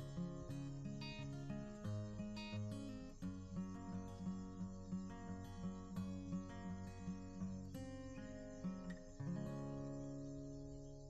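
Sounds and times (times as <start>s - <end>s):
acoustic guitar chord strummed: 0.0s - 11.0s.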